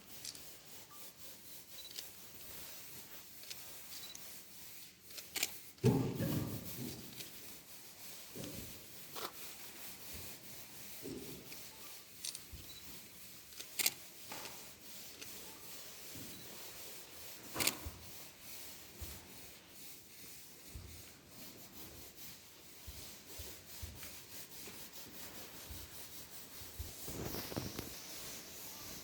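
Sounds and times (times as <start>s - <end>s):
brushing on wooden block: 0.0s - 29.0s.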